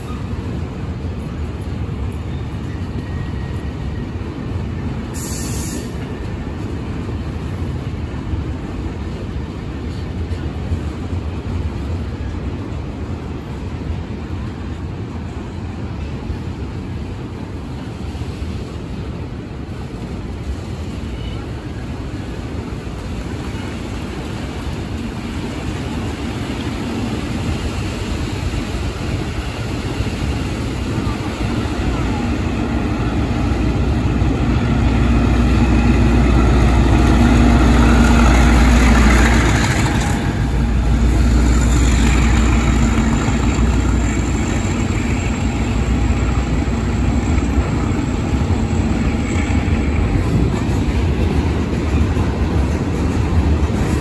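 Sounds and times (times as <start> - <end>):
train rumble passing: 0.0 - 54.0.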